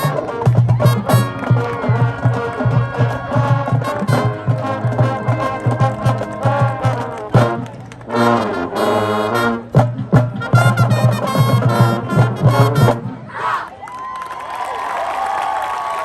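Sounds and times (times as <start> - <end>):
marching band brass chords: 0.0 - 13.5.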